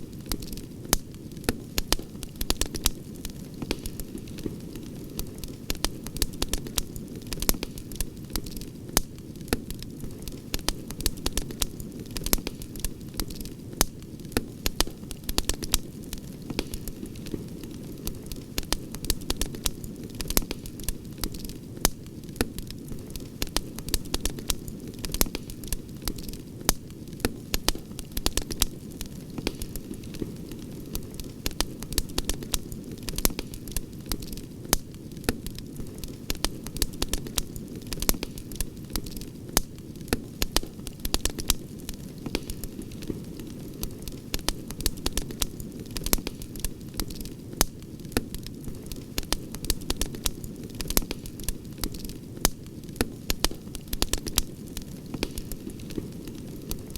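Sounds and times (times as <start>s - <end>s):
campfire crackling and popping: 0.0s - 56.9s
low rumble of flames: 0.0s - 56.9s.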